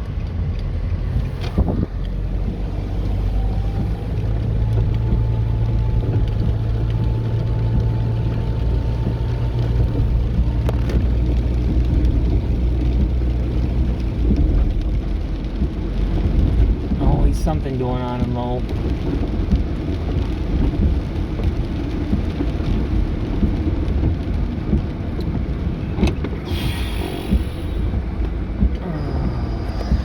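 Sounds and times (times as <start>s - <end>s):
car engine and road noise: 0.0s - 30.0s
rain hissing: 0.2s - 30.0s.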